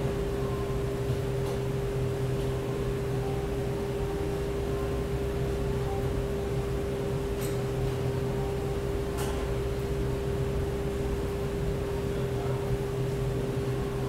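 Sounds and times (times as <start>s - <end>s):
mid-pitched mechanical hum: 0.0s - 14.0s.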